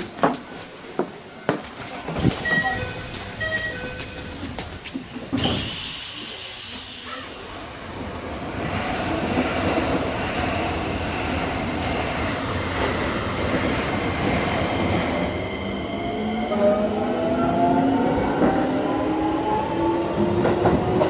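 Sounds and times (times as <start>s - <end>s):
rail noise: 0.0s - 21.0s.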